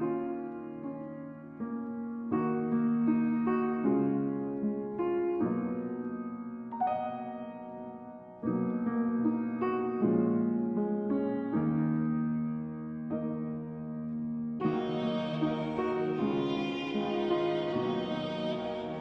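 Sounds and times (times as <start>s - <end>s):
gentle piano chords: 0.0s - 19.0s.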